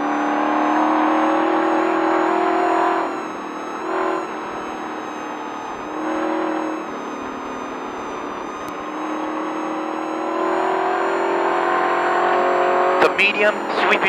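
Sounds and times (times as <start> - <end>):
road and wind noise: 0.0 - 14.0
truck engine running hard: 0.0 - 14.0.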